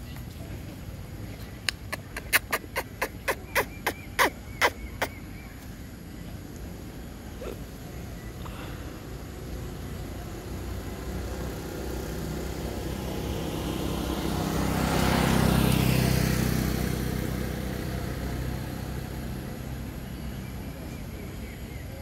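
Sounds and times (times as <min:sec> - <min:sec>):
motor vehicle passing by: 0:00.0 - 0:22.0.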